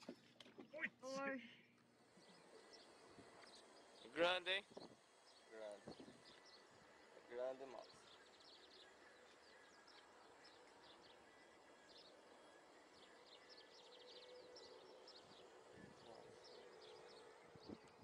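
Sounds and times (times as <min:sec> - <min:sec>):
faint steady hum: 0:00.0 - 0:18.0
small birds trilling: 0:01.9 - 0:18.0.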